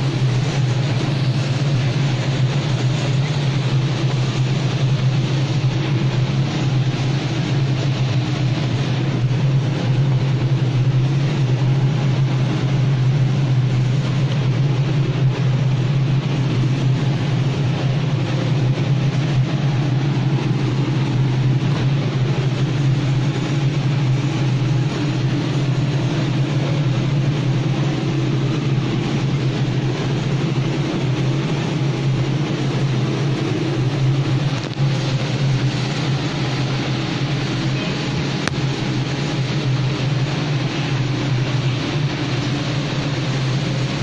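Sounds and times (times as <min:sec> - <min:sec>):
hiss: 0:00.0 - 0:44.0
mechanical hum and rumble: 0:00.0 - 0:44.0.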